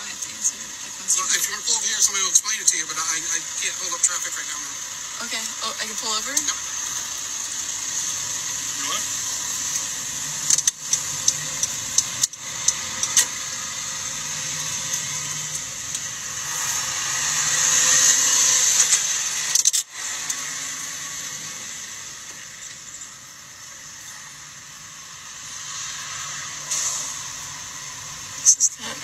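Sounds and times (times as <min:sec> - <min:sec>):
road and engine noise in car: 0:00.0 - 0:29.0.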